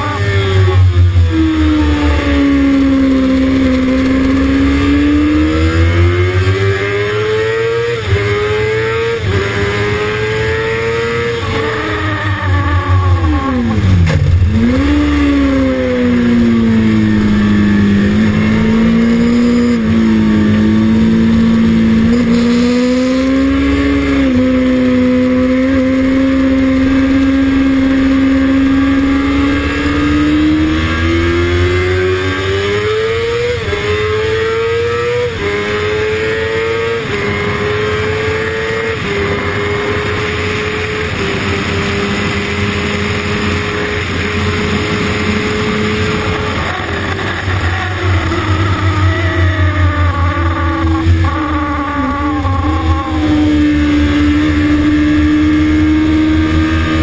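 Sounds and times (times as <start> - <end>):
motorcycle engine revving and upshifting: 0.0 - 57.0.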